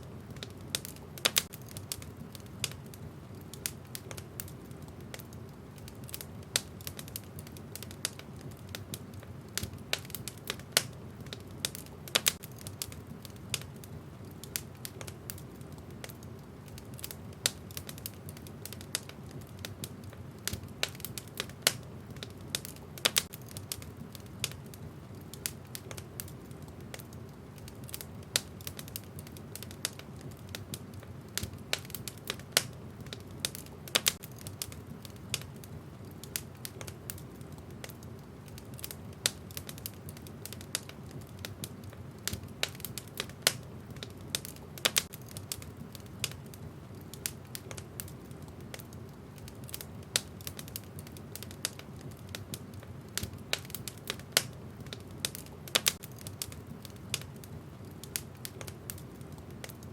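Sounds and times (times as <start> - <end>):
burning logs crackling and popping: 0.0 - 59.9
fire rumbling in fireplace: 0.0 - 59.9.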